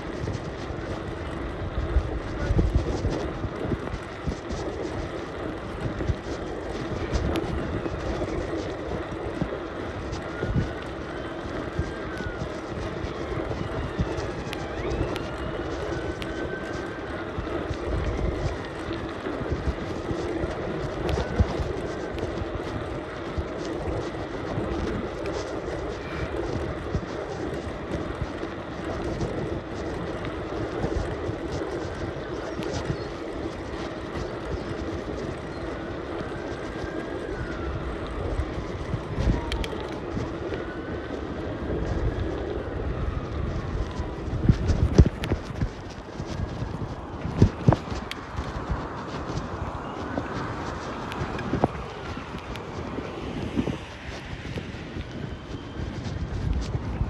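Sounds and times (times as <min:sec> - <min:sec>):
small clicks and rattles: 0:00.0 - 0:55.2
rolling bicycle hum: 0:00.0 - 0:57.0
wind rumble on microphone: 0:00.0 - 0:57.0.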